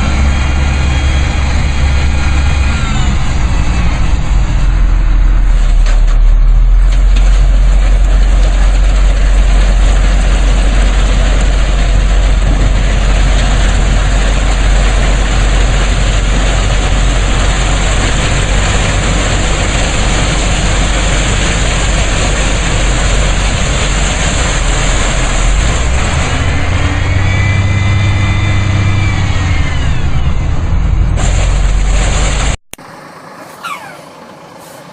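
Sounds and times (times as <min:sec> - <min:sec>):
heavy truck engine running: 0:00.0 - 0:34.9.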